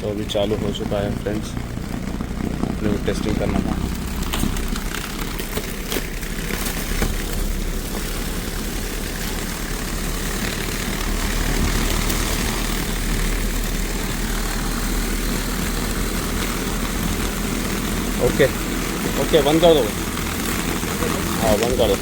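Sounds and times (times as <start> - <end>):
air conditioner fan whirring: 0.0 - 22.0
low hum: 0.0 - 22.0.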